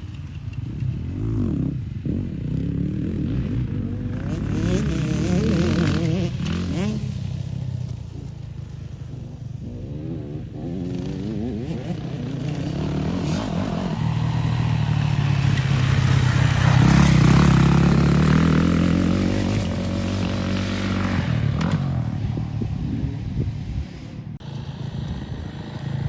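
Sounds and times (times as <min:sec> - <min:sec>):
dirt bike engine: 0:00.0 - 0:26.0.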